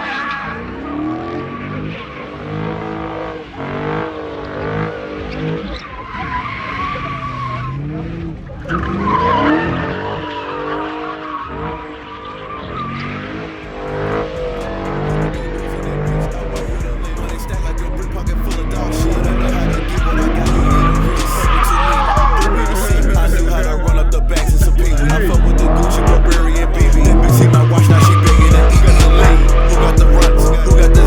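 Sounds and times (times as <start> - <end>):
car engine revving: 0.0 - 31.0
tyres squealing: 0.0 - 31.0.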